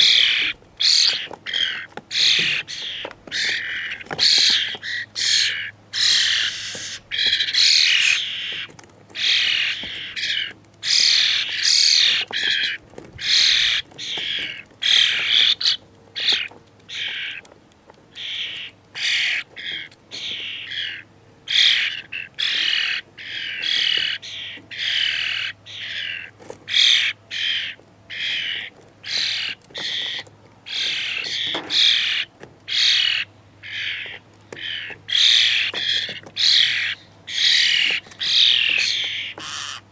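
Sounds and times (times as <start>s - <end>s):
fledgling starlings squawking: 0.0s - 39.9s.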